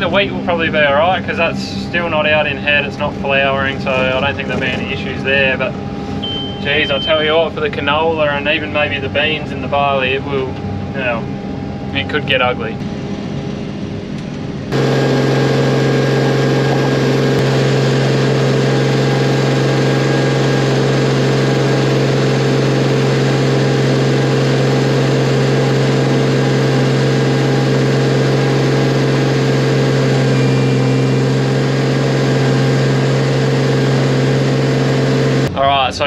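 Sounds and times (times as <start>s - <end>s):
diesel engine humming: 0.0s - 36.0s.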